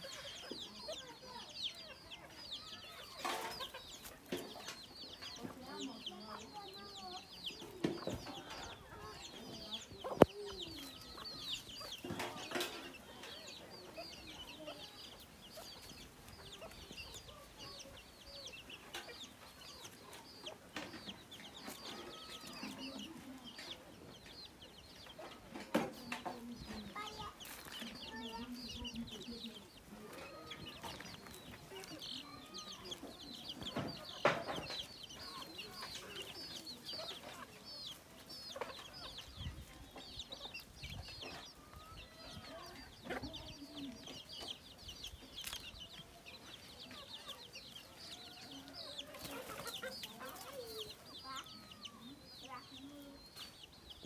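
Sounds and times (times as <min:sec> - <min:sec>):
chicks peeping: 0:00.0 - 0:54.0
hen clucking: 0:00.0 - 0:54.0.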